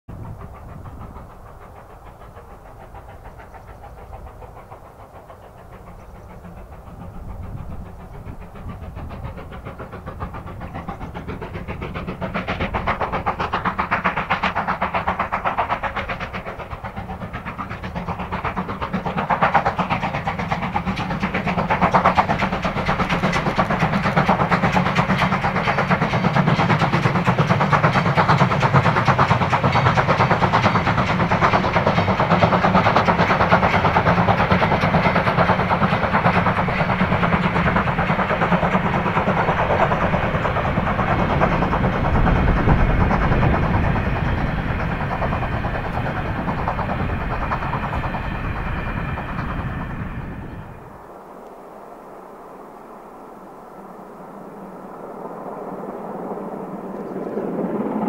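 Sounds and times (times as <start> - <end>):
steam locomotive exhaust beats: 0.1 - 58.0.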